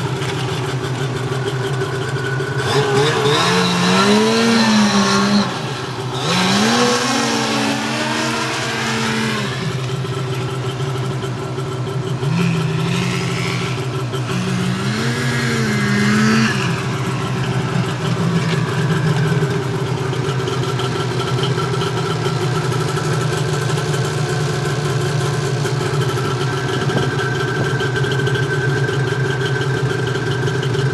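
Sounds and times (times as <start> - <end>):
snowmobile engine revving and idling: 0.0 - 30.9.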